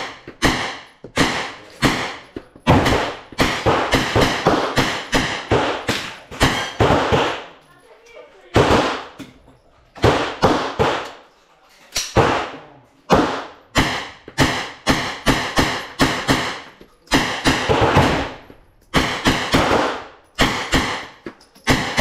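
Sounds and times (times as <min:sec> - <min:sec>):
gunshots with echo: 0:00.0 - 0:07.6, 0:08.5 - 0:09.2, 0:10.0 - 0:11.2, 0:12.1 - 0:22.0.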